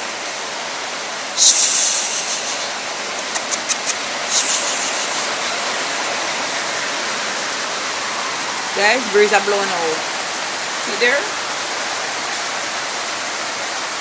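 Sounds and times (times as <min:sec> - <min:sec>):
heavy rain: 0:00.0 - 0:14.0
sharp ticks of raindrops: 0:01.4 - 0:14.0.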